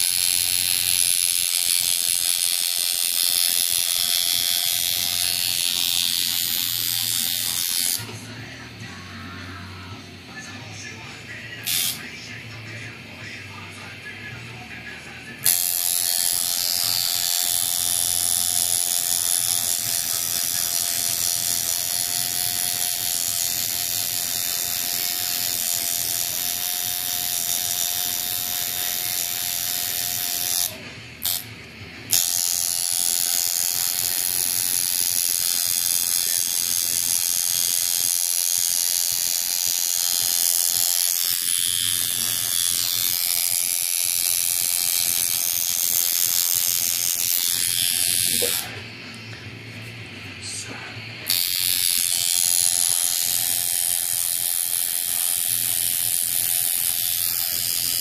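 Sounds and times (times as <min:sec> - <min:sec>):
tattoo machine buzzing: 0:00.0 - 0:12.9, 0:13.5 - 0:58.0.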